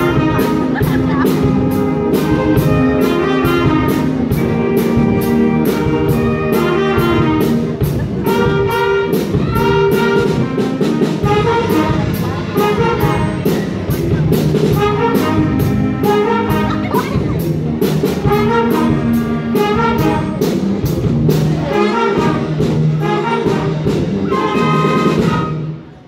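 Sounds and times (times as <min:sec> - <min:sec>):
flutes and saxophones: 0:00.0 - 0:17.6, 0:18.2 - 0:26.0
percussion beat: 0:00.0 - 0:25.5.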